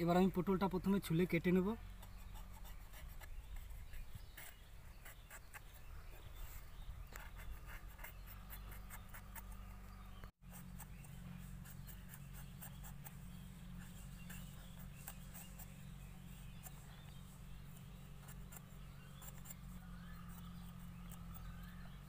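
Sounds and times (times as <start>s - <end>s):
blade scraping gourd skin: 1.9s - 22.0s.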